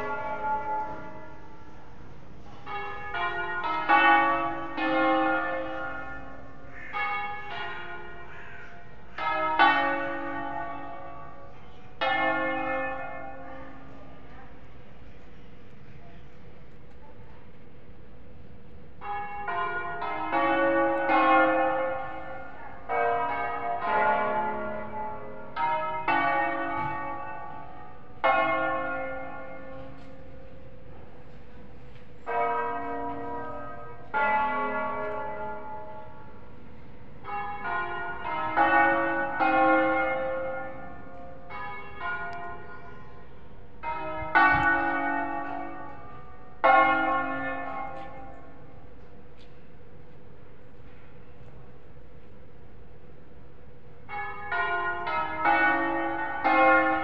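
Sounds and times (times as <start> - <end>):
church bells ringing: 0.0 - 15.7, 17.7 - 57.0.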